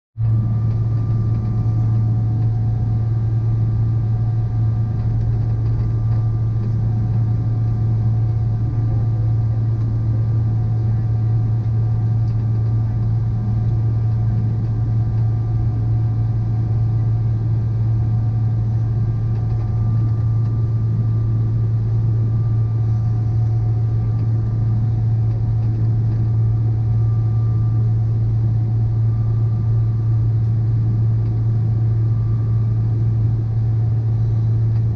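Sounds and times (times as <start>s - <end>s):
engine drone: 0.2s - 34.9s
faint whining tones: 0.2s - 34.9s.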